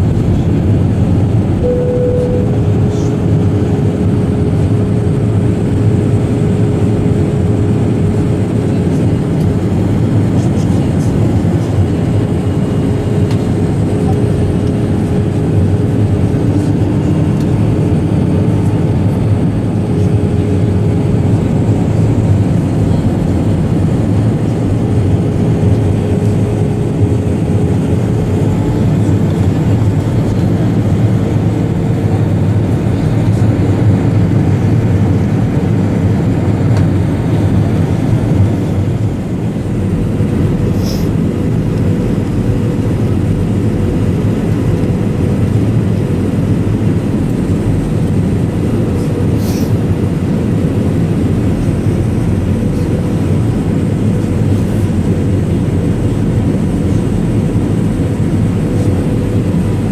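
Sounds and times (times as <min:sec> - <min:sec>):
airliner cabin engine roar: 0:00.0 - 0:59.9
faint engine hum: 0:00.0 - 0:59.9.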